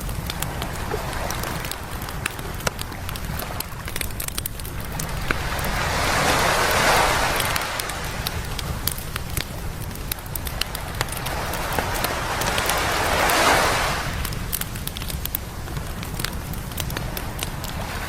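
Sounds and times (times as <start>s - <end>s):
wave washing in: 0.0s - 16.2s
campfire crackling and popping: 0.0s - 18.0s.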